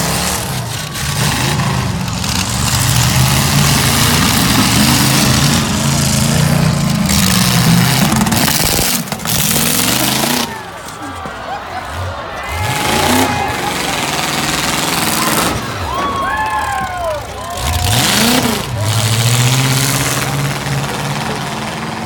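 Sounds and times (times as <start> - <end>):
truck engines revving: 0.0 - 22.0.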